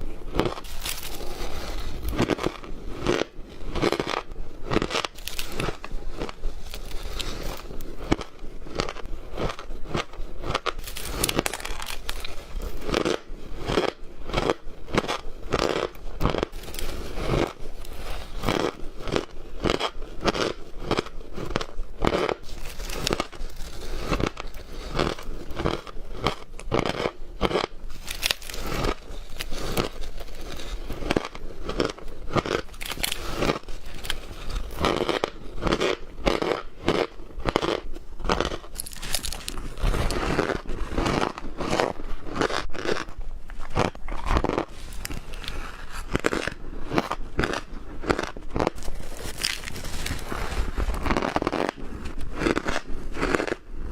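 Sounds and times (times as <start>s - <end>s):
ice crunching and chewing: 0.0s - 53.9s.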